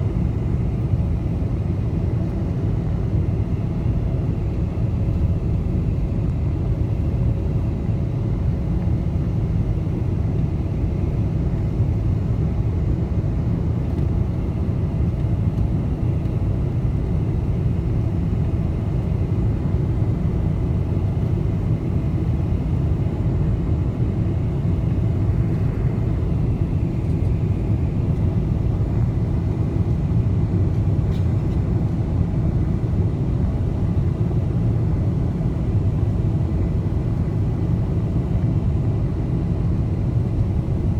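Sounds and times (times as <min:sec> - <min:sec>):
low rumble of engines and airflow: 0:00.0 - 0:40.9.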